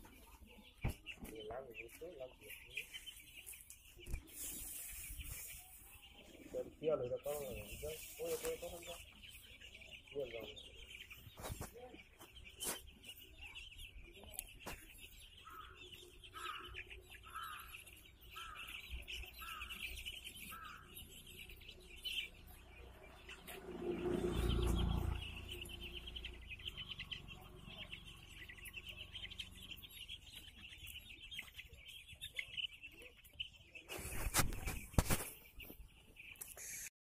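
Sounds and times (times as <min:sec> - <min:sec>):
chicks peeping: 0:00.0 - 0:36.9.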